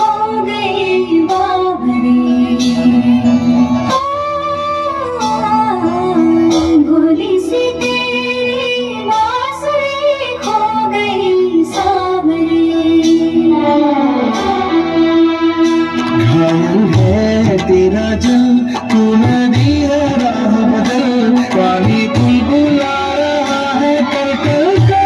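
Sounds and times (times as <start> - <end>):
woman singing with instrumental backing: 0.0 - 25.0.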